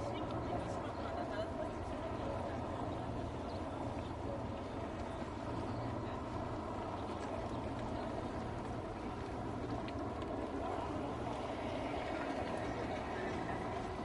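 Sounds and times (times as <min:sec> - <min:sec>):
distant engines rumbling: 0:00.0 - 0:14.0.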